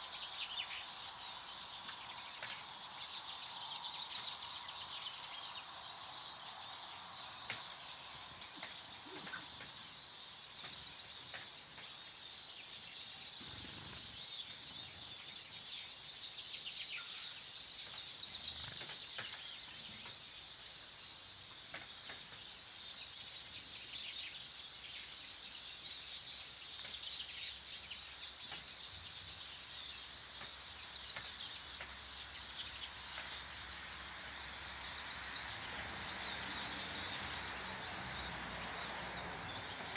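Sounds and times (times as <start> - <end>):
garden birds chirping: 0.0 - 39.9.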